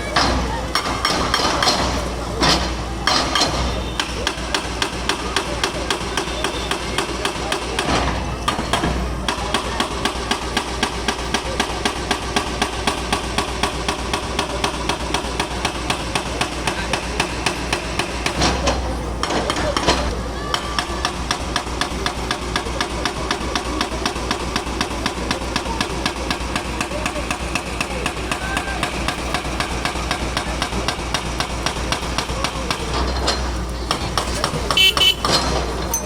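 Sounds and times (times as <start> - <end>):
hydraulic breaker hammering concrete: 0.0 - 35.8.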